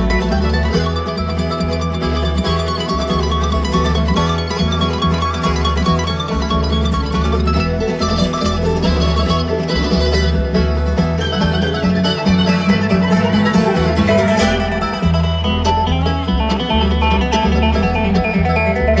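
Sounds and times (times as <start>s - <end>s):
bluegrass string band music: 0.0s - 19.0s.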